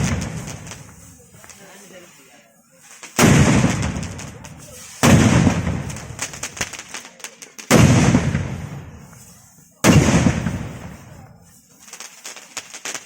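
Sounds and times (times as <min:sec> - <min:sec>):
fireworks crackling pops: 0:00.0 - 0:13.0
fireworks loud bangs: 0:00.0 - 0:13.0.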